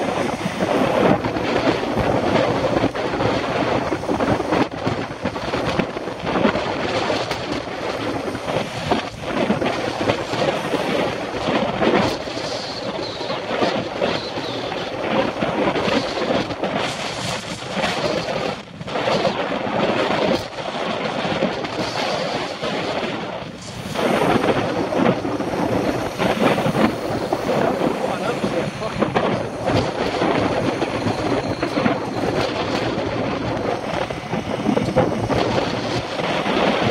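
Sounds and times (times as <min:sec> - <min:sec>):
road and traffic rumble: 0:00.0 - 0:36.9
wind buffeting microphone: 0:00.0 - 0:36.9.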